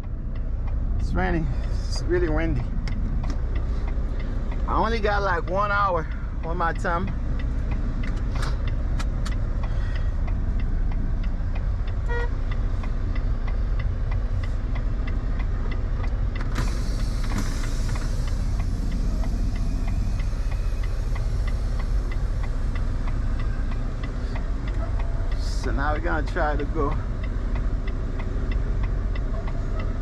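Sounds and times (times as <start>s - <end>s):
truck cab rumble: 0.0s - 30.0s
regular clicking: 1.6s - 30.0s.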